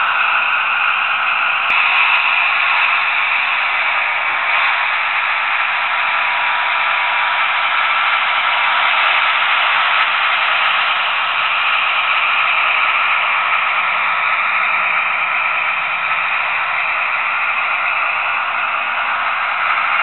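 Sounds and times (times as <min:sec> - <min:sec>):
diesel engine sound from small speaker: 0:00.0 - 0:20.0
model train wheels on track: 0:00.0 - 0:20.0.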